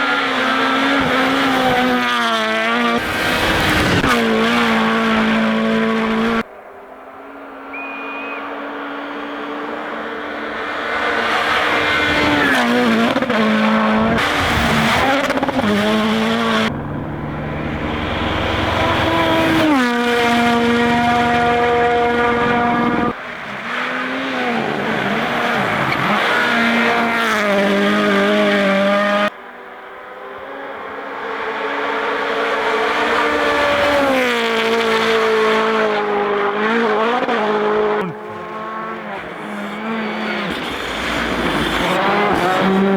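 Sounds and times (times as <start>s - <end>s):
rally car engine revving: 0.0s - 6.5s, 7.7s - 42.9s.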